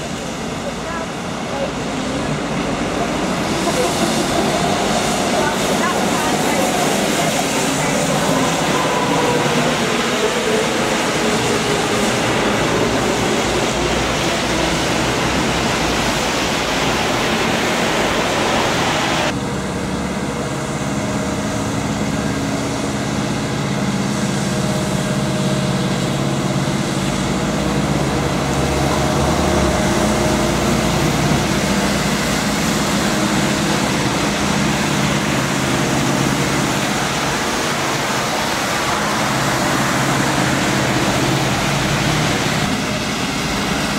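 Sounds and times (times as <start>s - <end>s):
bus engine hum: 0.0s - 43.9s
tyres hissing on wet road: 0.0s - 43.9s.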